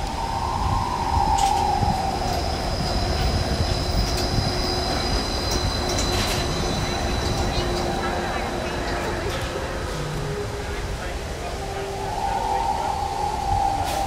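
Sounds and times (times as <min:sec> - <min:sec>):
low rumble: 0:00.0 - 0:14.0
monorail drive whine: 0:00.0 - 0:14.0.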